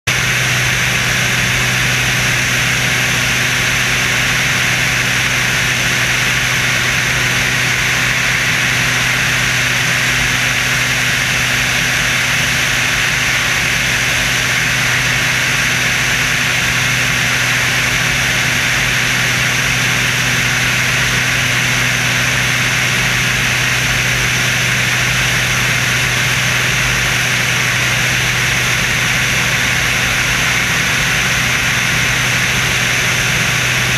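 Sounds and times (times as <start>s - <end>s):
aircraft engines running: 0.1s - 33.9s.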